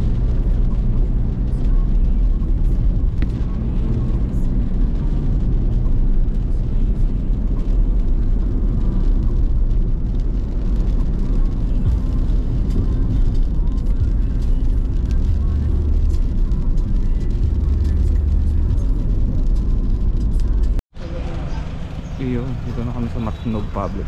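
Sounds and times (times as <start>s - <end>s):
car engine rumble: 0.0s - 24.0s
tyres on wet road: 0.0s - 24.0s.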